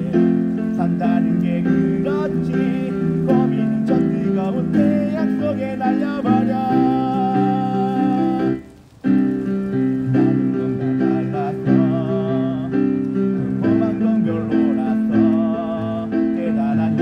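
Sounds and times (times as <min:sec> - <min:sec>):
man singing: 0:00.0 - 0:08.7, 0:09.7 - 0:17.0
electronic keyboard accompaniment: 0:00.0 - 0:17.0.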